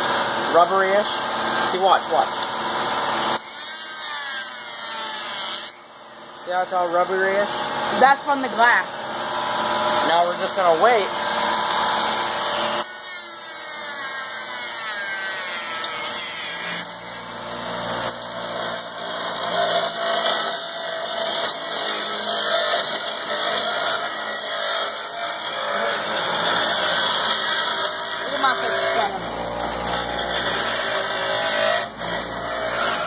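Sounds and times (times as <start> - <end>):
rotary tool whine: 0.0 - 33.0.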